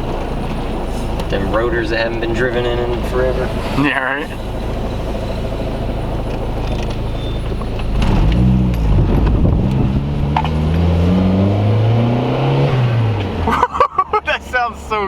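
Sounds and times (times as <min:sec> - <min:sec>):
car accelerating: 0:00.0 - 0:14.8
turbocharged car engine revving: 0:00.9 - 0:14.2.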